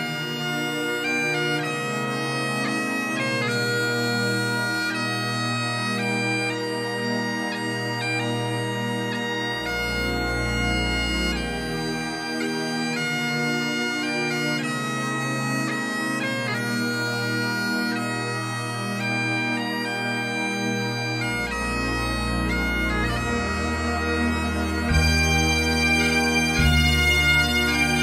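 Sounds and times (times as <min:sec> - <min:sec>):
bagpipe dance tune: 0:00.0 - 0:28.0.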